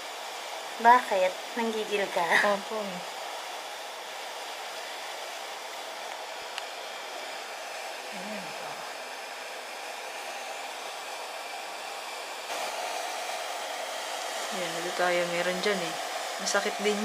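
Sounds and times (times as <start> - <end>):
blower machine rushing air: 0.0 - 17.0.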